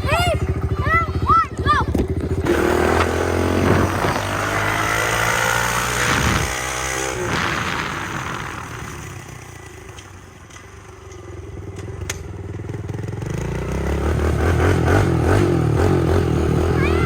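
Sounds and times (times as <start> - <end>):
dirt bike engines racing: 0.0 - 11.0, 13.0 - 17.0.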